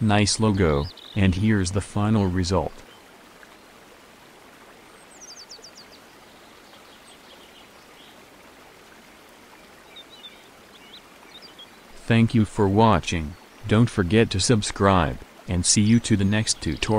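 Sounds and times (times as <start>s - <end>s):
faint steady hiss: 0.0s - 16.9s
small birds chirping: 0.0s - 16.9s.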